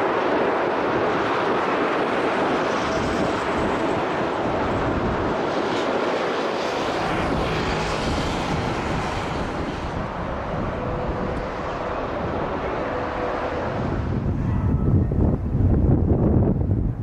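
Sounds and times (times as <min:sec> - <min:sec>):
airplane engine and airflow: 0:00.0 - 0:17.0.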